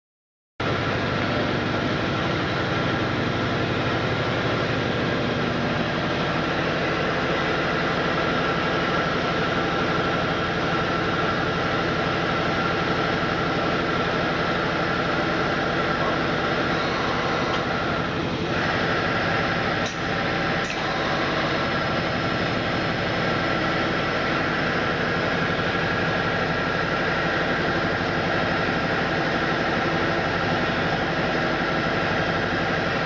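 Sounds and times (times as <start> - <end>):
lathe machine hum with high whine: 0.6 - 33.0.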